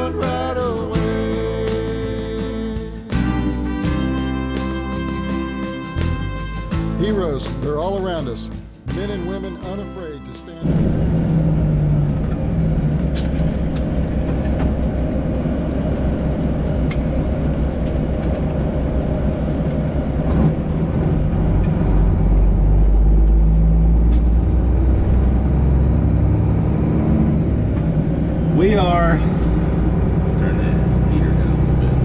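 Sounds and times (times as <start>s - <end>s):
truck diesel engine drone: 0.0s - 9.8s, 10.5s - 32.0s.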